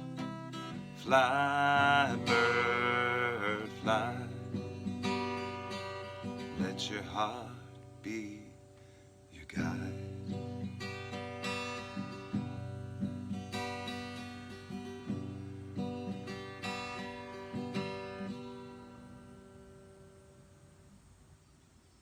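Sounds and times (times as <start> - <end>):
acoustic guitar strumming: 0.0 - 20.7.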